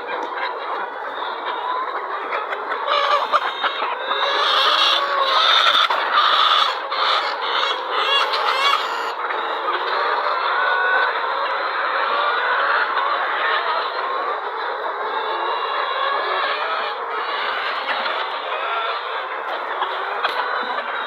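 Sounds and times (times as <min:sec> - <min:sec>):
poultry flock clucking: 0:00.0 - 0:21.0.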